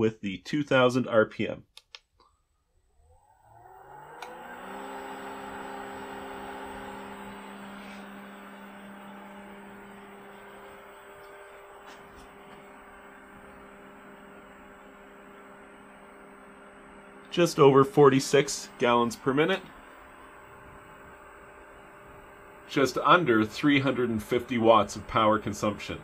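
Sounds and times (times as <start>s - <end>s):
pool pump motor humming: 3.0s - 26.0s.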